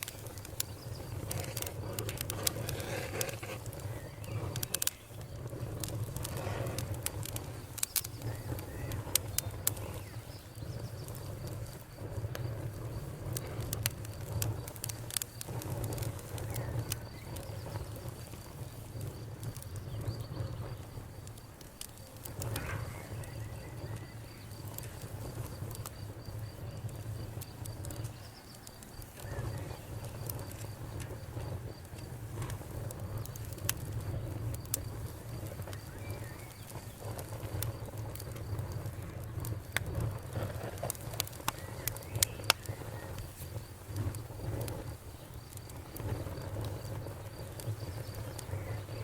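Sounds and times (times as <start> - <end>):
fire crackling in fireplace: 0.0 - 49.0.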